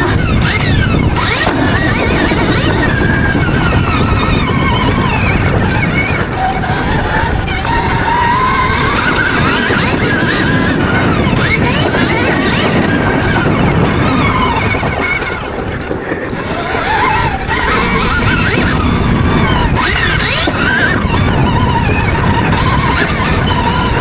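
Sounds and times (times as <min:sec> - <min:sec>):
electric motorbike motor whining: 0:00.0 - 0:24.0
tyre rumble: 0:00.0 - 0:24.0
wind noise on microphone: 0:00.0 - 0:24.0.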